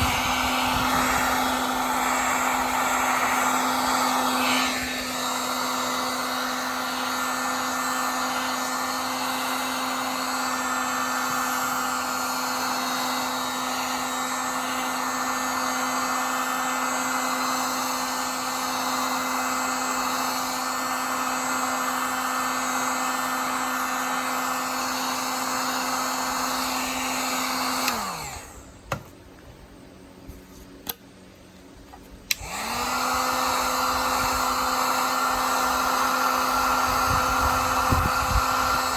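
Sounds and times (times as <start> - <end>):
heat gun blowing: 0.0 - 29.0, 32.2 - 38.9.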